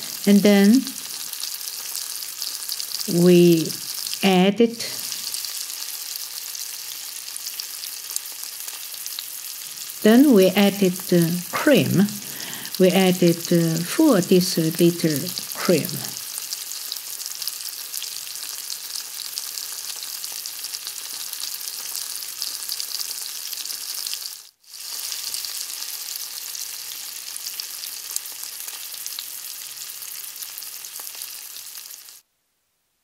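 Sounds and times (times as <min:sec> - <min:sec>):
meat sizzling in a pot: 0:00.0 - 0:32.2.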